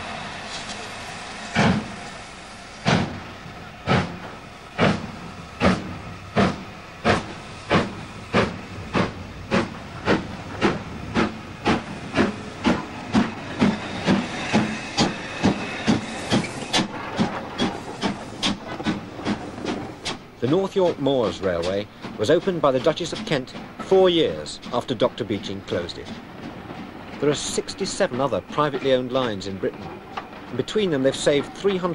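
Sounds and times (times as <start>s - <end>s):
steam hissing: 0.0s - 26.2s, 26.8s - 31.9s
steam locomotive exhaust chuffs: 0.0s - 31.9s.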